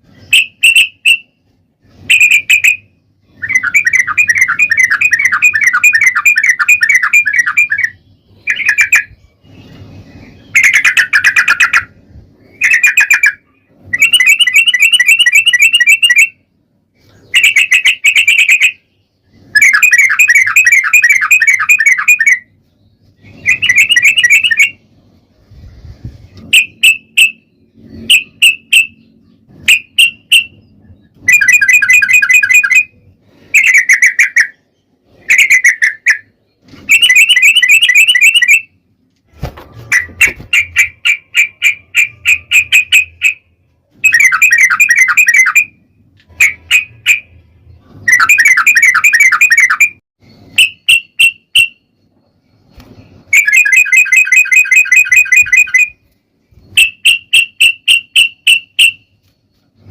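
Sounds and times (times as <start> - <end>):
bird chattering song: 1.9 - 16.4, 17.0 - 24.9, 26.3 - 38.7, 39.9 - 45.8, 46.4 - 59.9.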